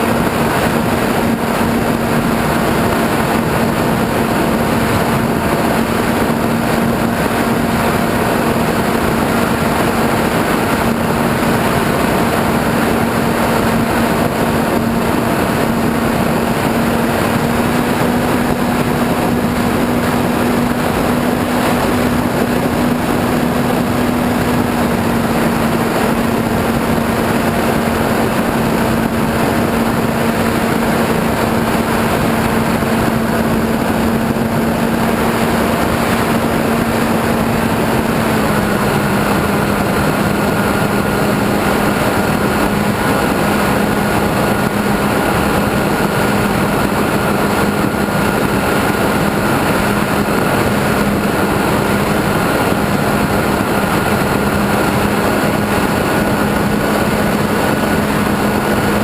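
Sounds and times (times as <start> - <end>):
model airplane motor running: 0.0 - 59.0
wind rush over microphone: 0.0 - 59.0.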